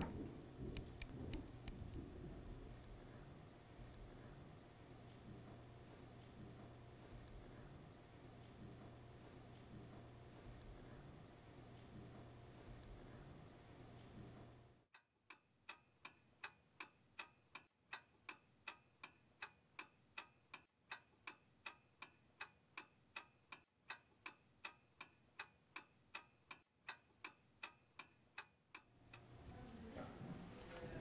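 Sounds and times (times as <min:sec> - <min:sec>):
faint clock ticking: 0:00.0 - 0:30.0.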